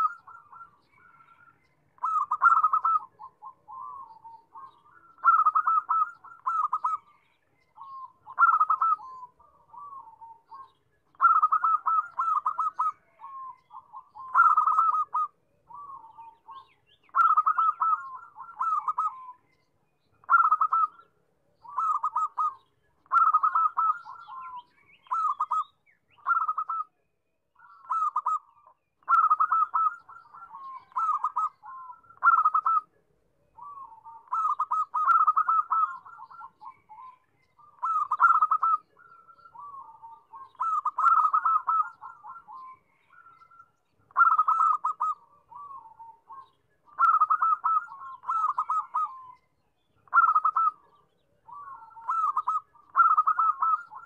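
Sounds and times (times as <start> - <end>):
dove cooing: 0.0 - 7.2, 7.8 - 19.5, 20.2 - 26.9, 27.6 - 32.9, 33.5 - 49.4, 50.0 - 54.0.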